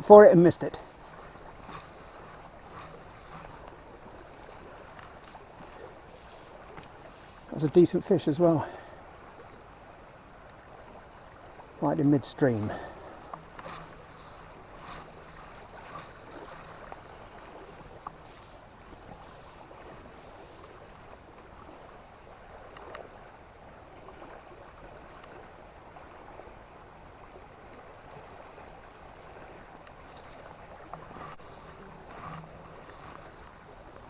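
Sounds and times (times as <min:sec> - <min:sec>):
river water flowing: 0:00.0 - 0:34.0.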